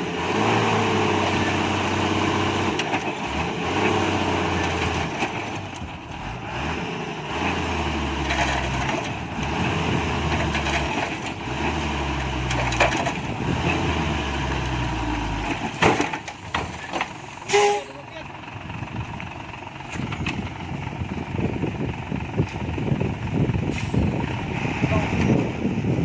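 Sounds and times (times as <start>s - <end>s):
diesel truck engine revving: 0.0s - 26.0s.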